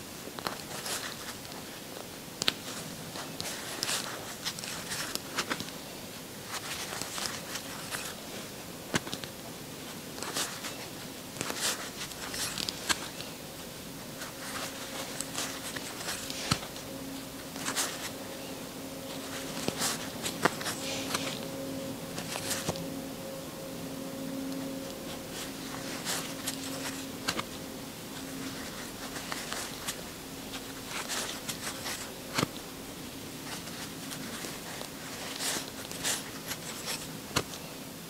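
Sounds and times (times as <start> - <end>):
crochet hook scratchy rustles: 0.4 - 37.6.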